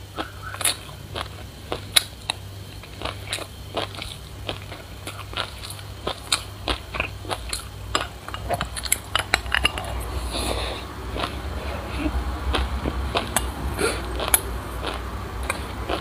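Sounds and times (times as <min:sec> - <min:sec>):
crunchy chewing of seeds: 0:00.0 - 0:16.0.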